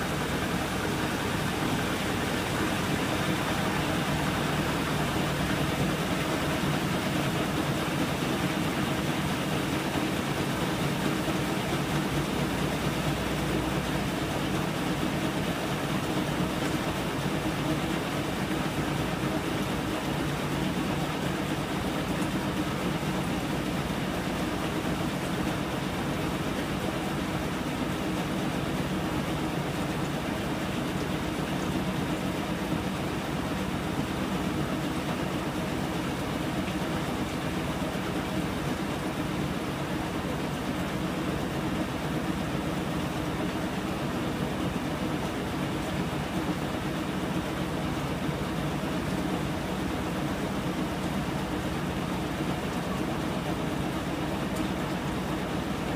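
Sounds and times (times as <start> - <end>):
washing machine running: 0.0 - 55.9.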